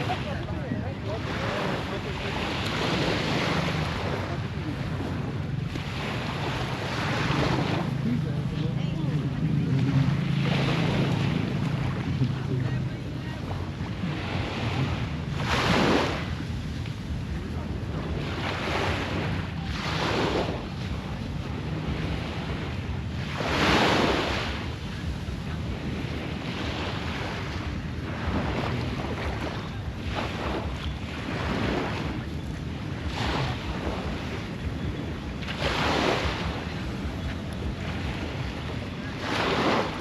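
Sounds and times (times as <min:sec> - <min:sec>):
surf washing up on beach: 0:00.0 - 0:40.0
wind rumble on microphone: 0:00.0 - 0:40.0.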